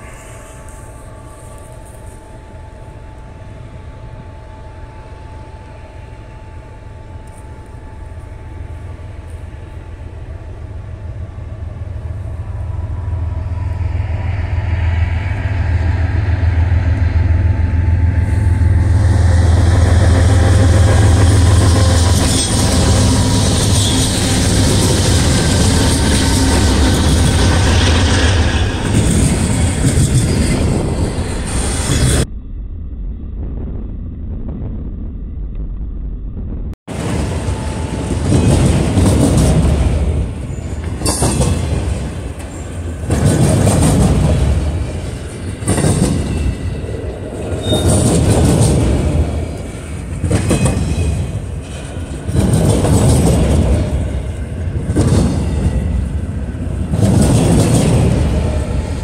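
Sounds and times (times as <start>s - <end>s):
rail cars rolling clatter: 0.0s - 32.3s, 36.9s - 59.0s
diesel locomotive engine rumble: 0.0s - 33.4s, 34.2s - 59.0s.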